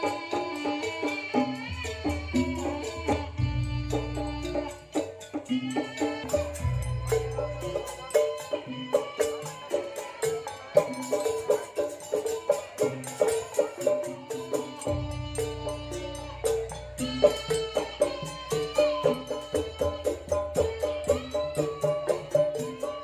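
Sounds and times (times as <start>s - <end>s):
drum and percussion beat: 0.0s - 23.0s
pitched percussion melody: 0.0s - 23.0s.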